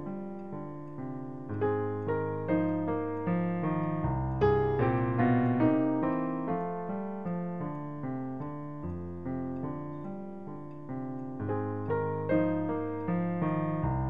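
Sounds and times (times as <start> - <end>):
calm solo piano: 0.0 - 14.0.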